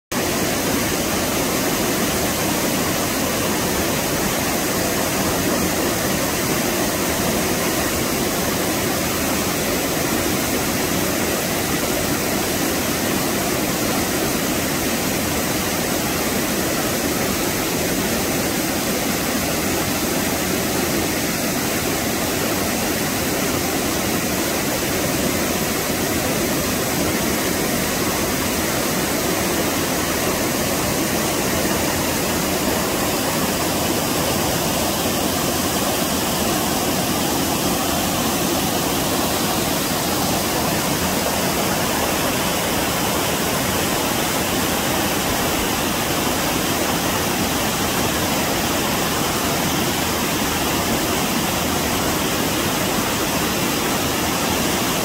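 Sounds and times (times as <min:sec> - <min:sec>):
stream rushing over boulders: 0:00.1 - 0:55.0.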